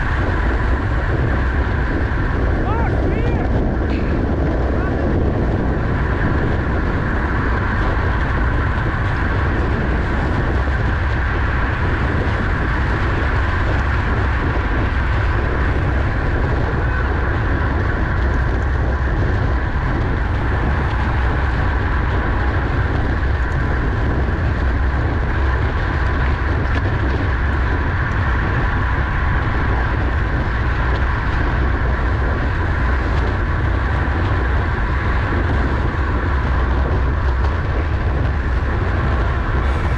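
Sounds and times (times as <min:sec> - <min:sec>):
bicycle road noise hum: 0:00.0 - 0:39.9
wind rush on microphone: 0:00.0 - 0:39.9.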